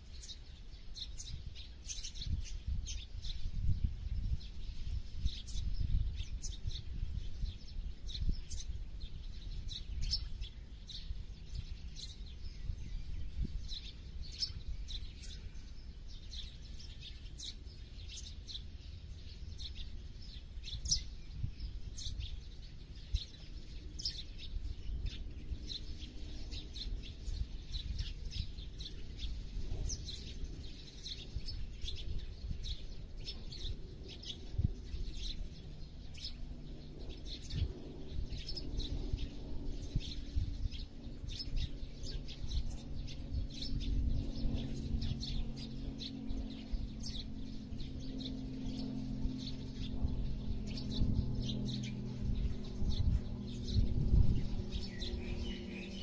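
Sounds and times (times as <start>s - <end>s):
small songbirds chirping: 0.0s - 56.0s
steady low rumble: 0.0s - 56.0s.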